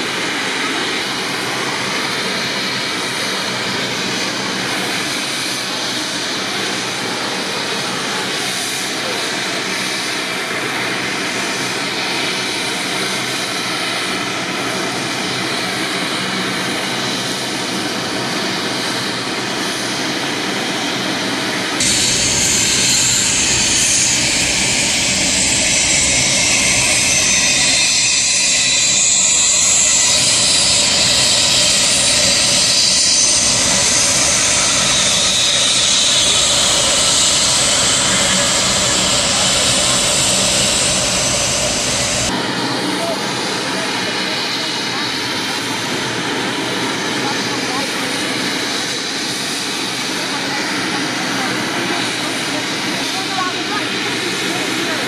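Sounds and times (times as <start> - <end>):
helicopter engines and rotor: 0.0 - 55.0.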